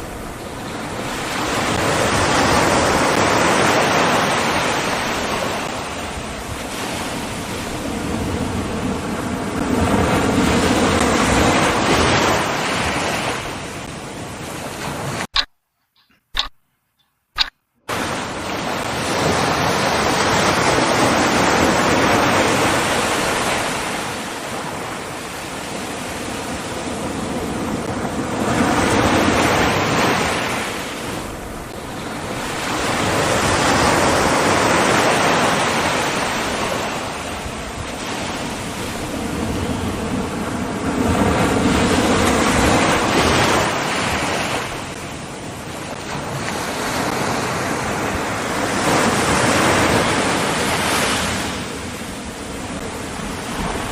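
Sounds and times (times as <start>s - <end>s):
ocean waves breaking: 0.0s - 15.4s, 17.4s - 53.9s.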